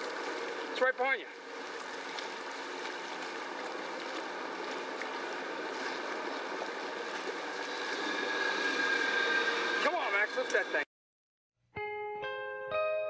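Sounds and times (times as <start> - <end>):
water washing around hull: 0.0 - 10.6
boat engine humming: 0.0 - 10.9.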